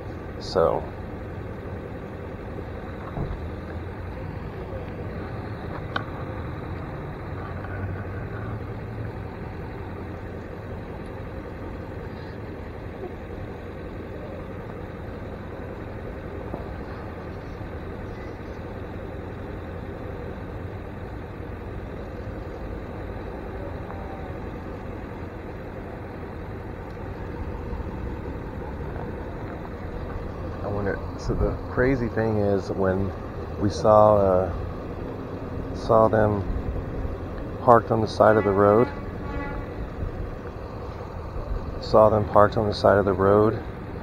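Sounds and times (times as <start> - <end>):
vehicle engines idling: 0.0 - 44.0.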